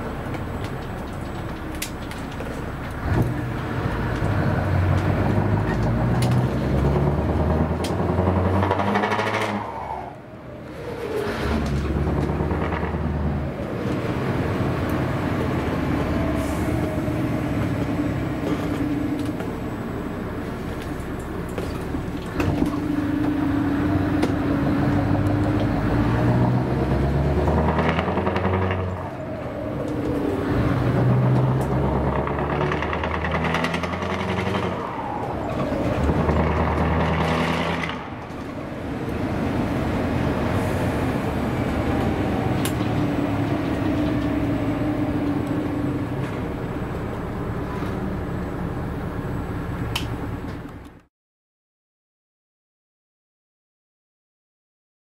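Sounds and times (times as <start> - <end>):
diesel truck engine revving: 0.0 - 50.8.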